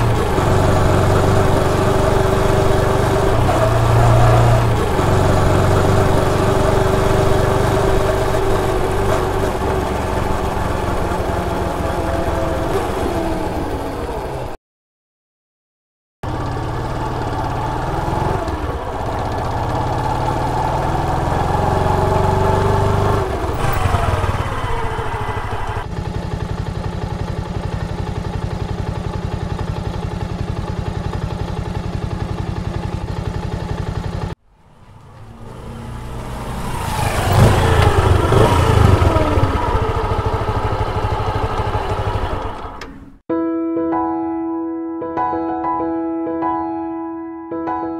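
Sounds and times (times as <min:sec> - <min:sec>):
motorcycle engine revving and idling: 0:00.0 - 0:14.6, 0:16.2 - 0:43.2
motorcycle passing by: 0:00.0 - 0:14.6, 0:16.2 - 0:43.2.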